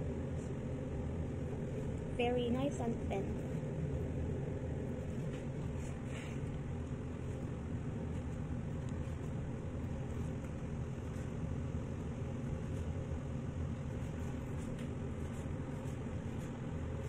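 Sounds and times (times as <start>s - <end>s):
machinery rumble: 0.0s - 17.0s.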